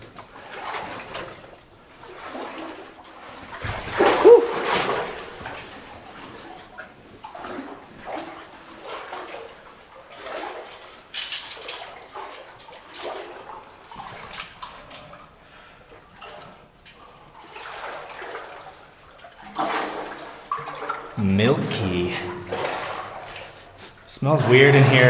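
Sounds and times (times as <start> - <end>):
boots splashing through water: 0.0 - 11.0, 11.6 - 15.2, 17.4 - 25.0.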